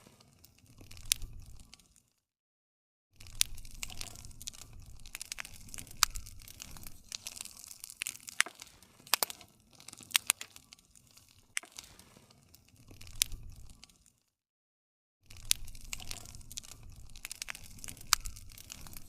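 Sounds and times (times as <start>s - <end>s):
wood fire crackling: 0.0s - 2.2s, 3.2s - 14.3s, 15.3s - 19.0s.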